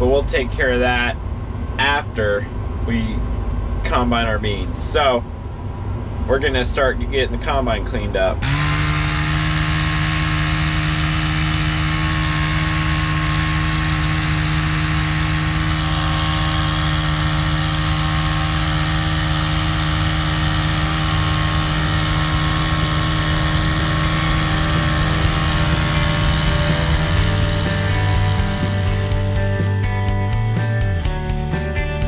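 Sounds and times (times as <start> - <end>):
combine harvester mechanical hum: 0.0 - 32.0.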